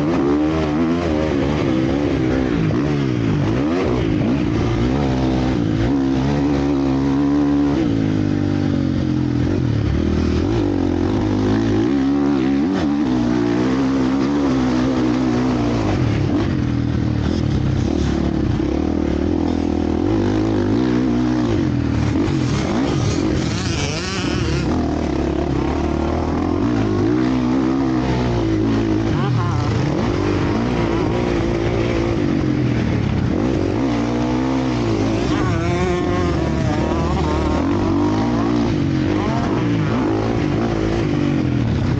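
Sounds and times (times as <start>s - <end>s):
motocross bikes revving: 0.0s - 41.9s.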